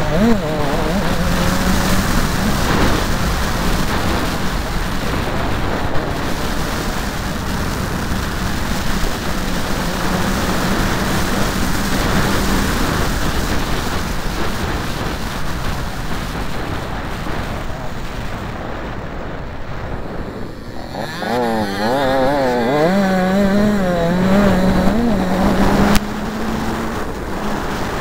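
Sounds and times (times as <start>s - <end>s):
dirt bike engine running: 0.0s - 28.0s
wind rushing over microphone: 0.0s - 28.0s.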